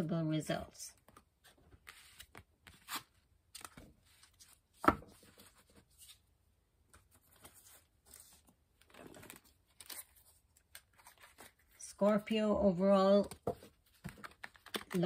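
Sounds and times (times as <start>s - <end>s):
cards rustling and sliding: 1.1s - 6.2s, 6.9s - 12.1s, 13.3s - 15.0s.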